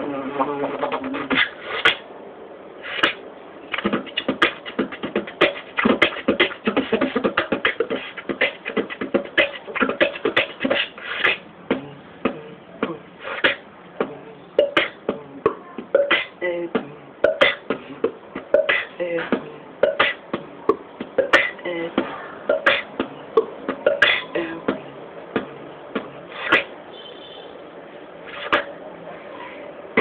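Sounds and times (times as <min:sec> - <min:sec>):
person beatboxing: 0:00.0 - 0:02.1, 0:02.8 - 0:26.8, 0:28.3 - 0:28.8.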